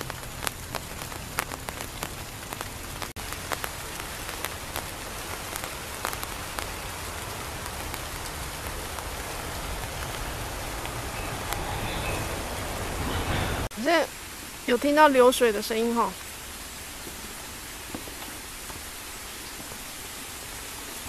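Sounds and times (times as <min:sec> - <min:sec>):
raindrops tapping: 0:00.0 - 0:21.0.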